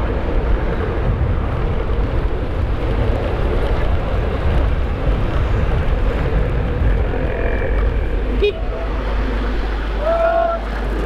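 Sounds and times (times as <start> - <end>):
motorcycle engine and wind noise: 0.0 - 10.0.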